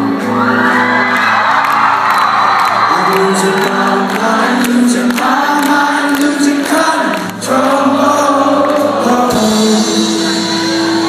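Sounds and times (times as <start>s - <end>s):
live rock band: 0.0s - 11.0s.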